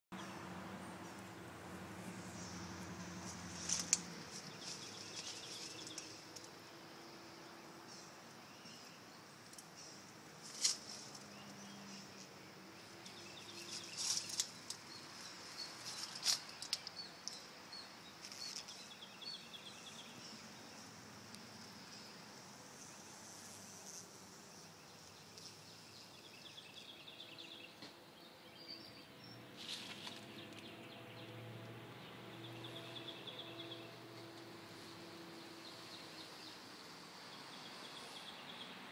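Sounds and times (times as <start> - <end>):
birds chirping: 0.2 - 31.4, 32.0 - 38.9.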